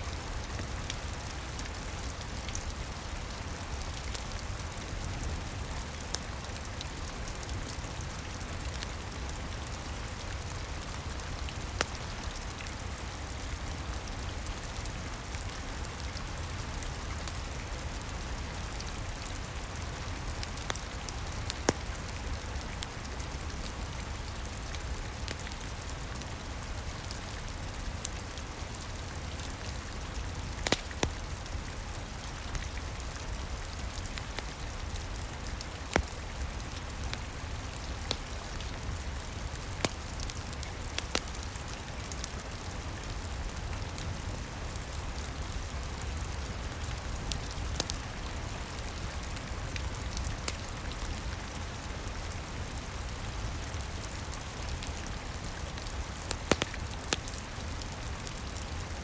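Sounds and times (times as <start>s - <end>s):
fireplace fire crackling: 0.0s - 59.0s
steady rain: 0.0s - 59.0s.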